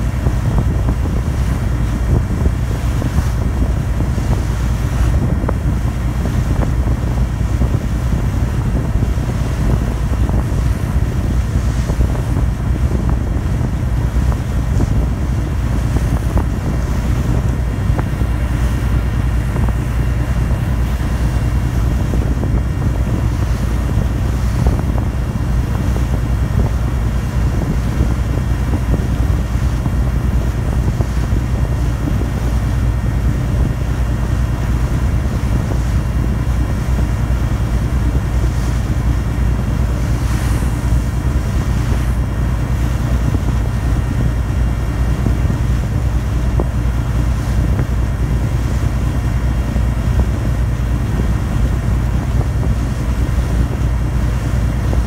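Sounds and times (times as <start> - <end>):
water rushing: 0.0 - 55.0
wind: 0.0 - 55.0.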